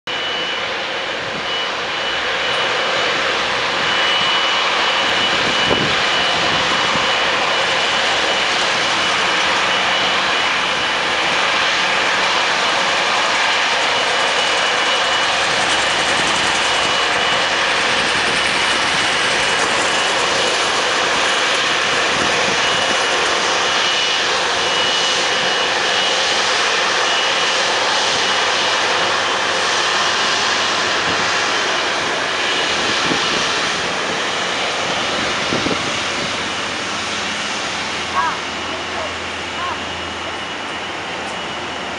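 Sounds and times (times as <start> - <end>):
jet engines rushing: 0.1 - 41.9.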